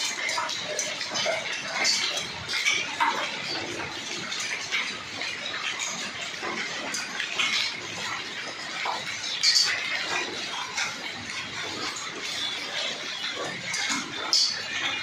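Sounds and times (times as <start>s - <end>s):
hail pattering: 0.0s - 15.0s.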